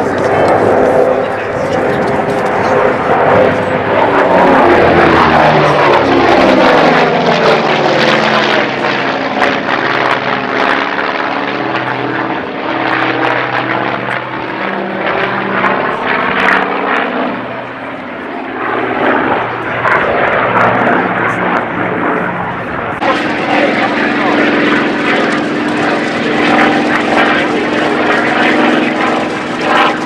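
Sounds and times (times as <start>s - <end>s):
aircraft radial engines at high power: 0.0s - 30.0s.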